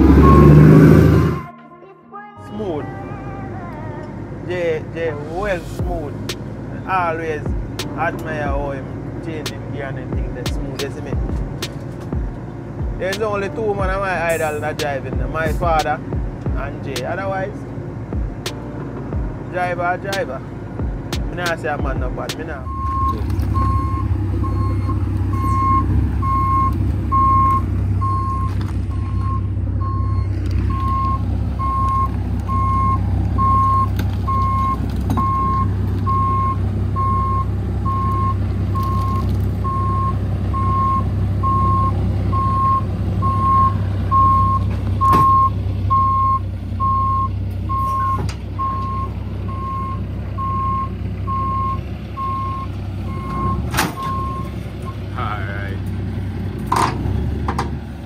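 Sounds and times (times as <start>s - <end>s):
diesel engine rumble: 0.0s - 1.5s, 2.4s - 58.0s
truck reversing alarm beeping: 0.0s - 1.5s, 5.6s - 17.7s, 18.4s - 55.6s.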